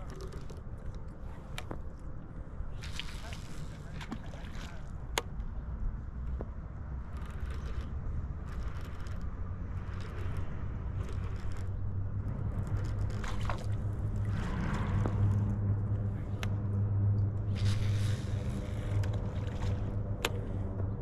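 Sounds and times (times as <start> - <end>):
low rumbling hum: 0.0 - 21.0.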